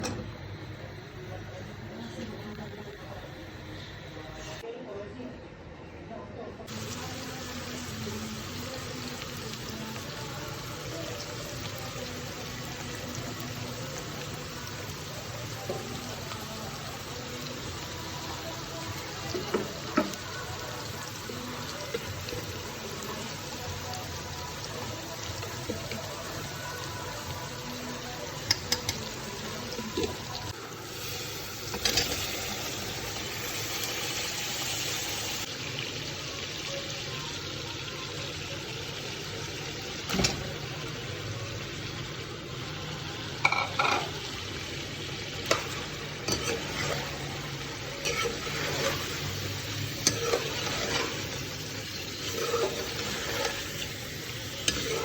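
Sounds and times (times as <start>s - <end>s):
food sizzling in a pan: 6.7s - 55.0s.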